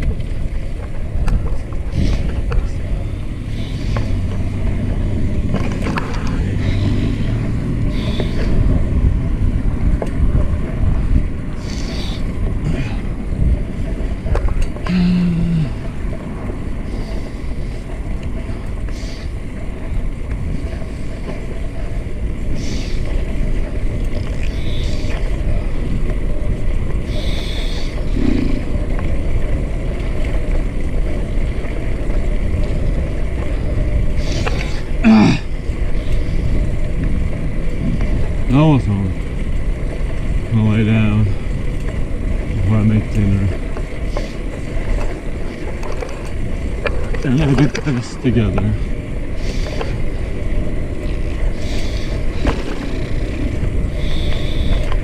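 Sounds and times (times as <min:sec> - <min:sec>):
bike clicks and rattles: 0:00.0 - 0:55.0
tyres rumbling on pavement: 0:00.0 - 0:55.0
wind buffeting microphone: 0:00.0 - 0:55.0.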